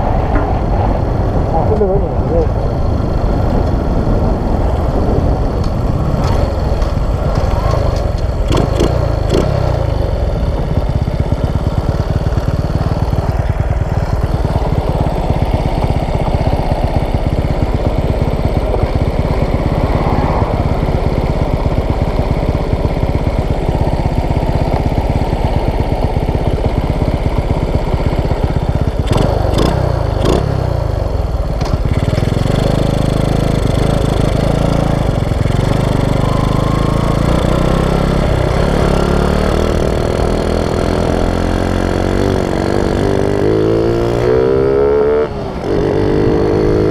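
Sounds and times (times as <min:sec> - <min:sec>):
motorcycle engine running roughly: 0:00.0 - 0:46.9.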